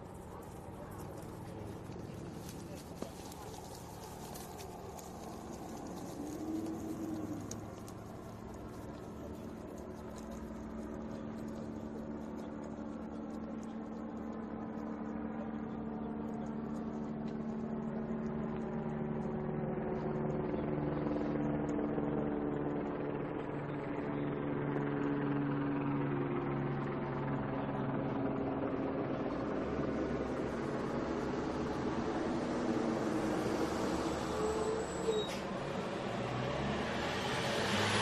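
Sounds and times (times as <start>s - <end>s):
vehicle engine humming: 0.0s - 25.4s, 26.0s - 38.0s.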